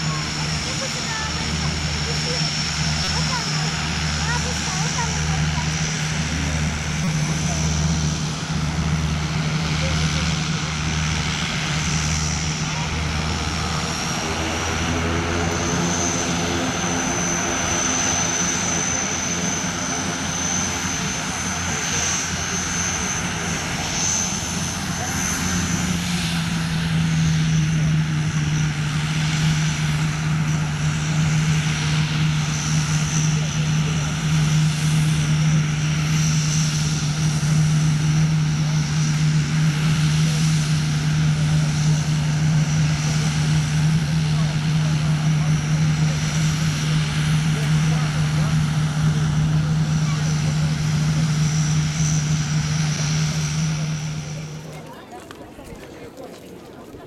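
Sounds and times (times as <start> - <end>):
high turbine whine: 0.0 - 54.7
propeller drone: 0.0 - 57.0.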